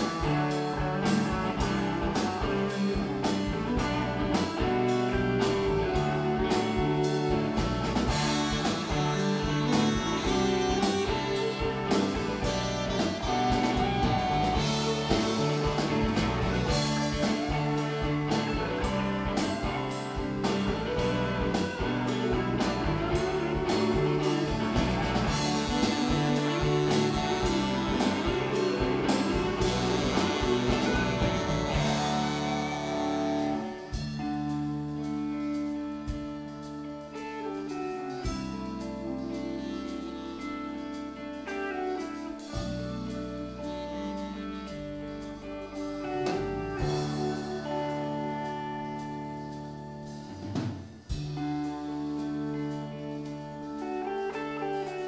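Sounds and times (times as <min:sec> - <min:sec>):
live rock band playing: 0:00.0 - 0:55.0
sliding lead melody: 0:00.0 - 0:55.0.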